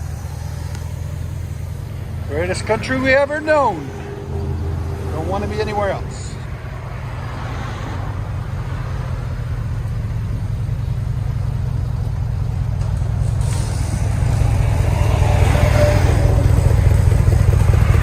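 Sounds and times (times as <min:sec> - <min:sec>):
truck engine rumbling: 0:00.0 - 0:18.0.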